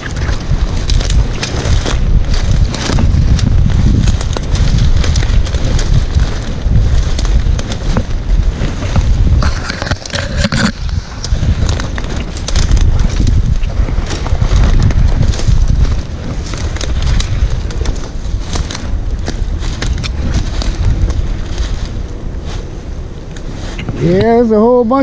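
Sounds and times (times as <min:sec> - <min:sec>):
crackling and rustling: 0:00.0 - 0:25.0
wind buffeting microphone: 0:00.0 - 0:25.0.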